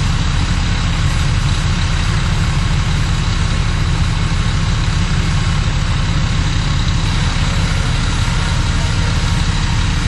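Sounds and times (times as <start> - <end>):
truck diesel engines idling: 0.0 - 10.0.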